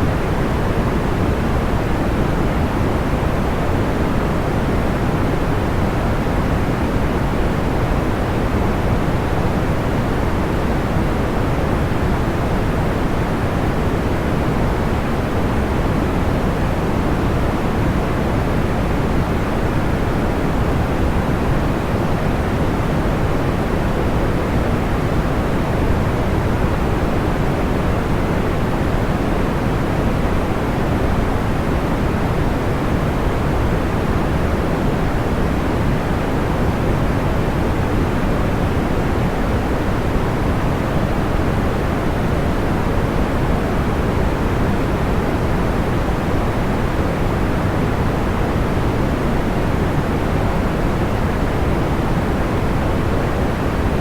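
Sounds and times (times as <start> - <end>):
steady white noise: 0.0 - 54.0.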